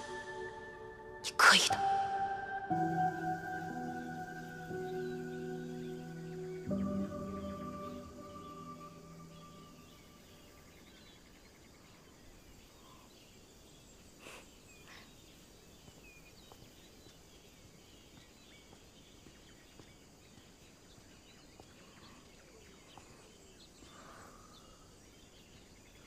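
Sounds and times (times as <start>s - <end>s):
distant bird chirps: 0.0s - 26.0s.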